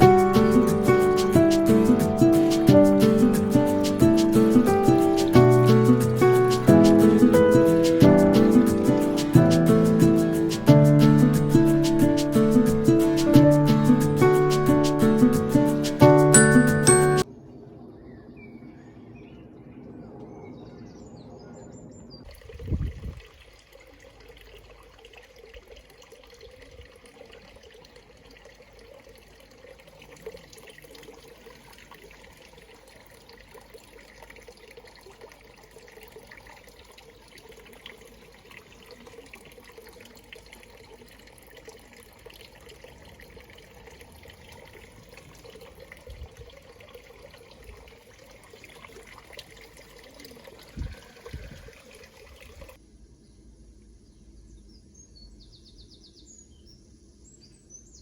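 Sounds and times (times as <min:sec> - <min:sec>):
faint water trickling: 0:00.0 - 0:18.6, 0:22.2 - 0:52.8.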